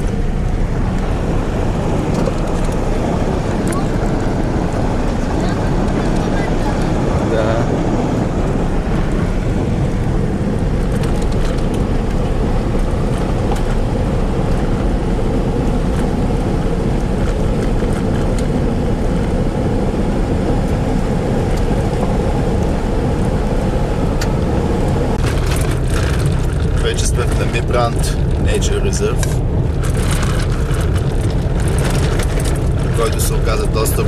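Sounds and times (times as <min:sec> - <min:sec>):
vehicle interior rumble: 0:00.0 - 0:34.0.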